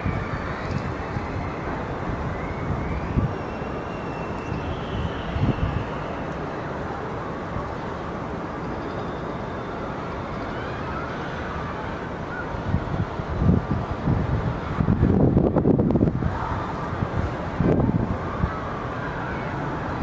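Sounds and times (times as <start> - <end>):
wind buffeting microphone: 0.0 - 8.6, 10.2 - 20.0.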